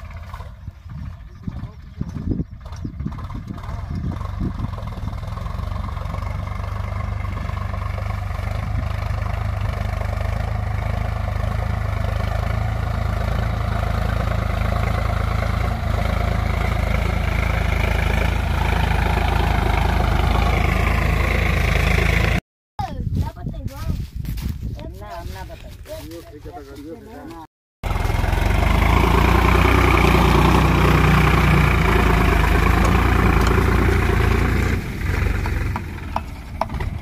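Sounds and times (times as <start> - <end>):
tractor diesel engine running: 0.0 - 22.4, 27.8 - 37.0.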